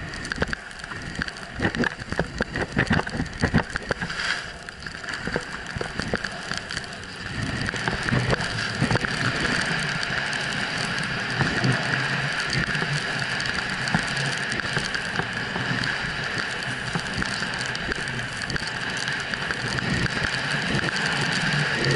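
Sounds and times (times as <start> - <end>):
small clicks and knocks: 0.0 - 21.9
snowboard scraping over snow: 1.0 - 21.9.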